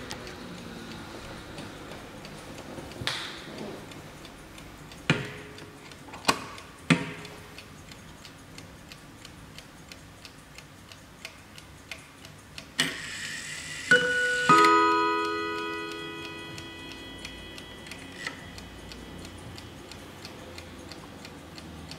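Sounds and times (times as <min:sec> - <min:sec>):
clock ticking: 0:00.0 - 0:21.9.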